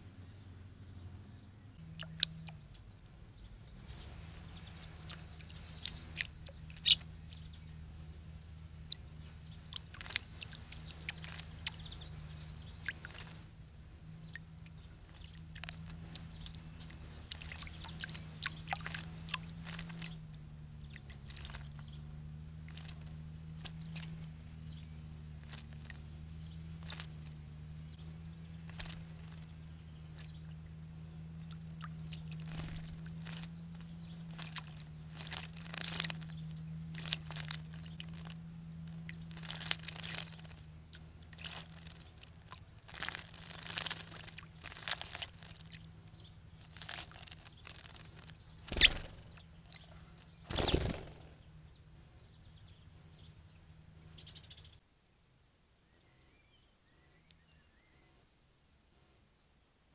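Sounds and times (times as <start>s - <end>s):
steady low hum: 0.0s - 54.7s
songbird singing: 0.0s - 54.9s, 55.8s - 58.8s
birds splashing in water: 1.7s - 51.5s.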